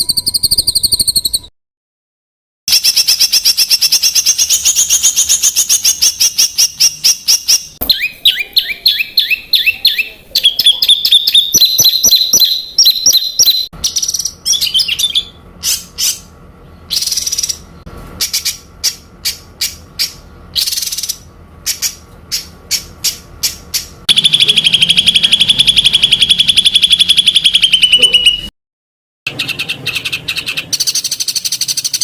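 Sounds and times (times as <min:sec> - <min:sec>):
sparse bird chirps: 0:02.7 - 0:28.5.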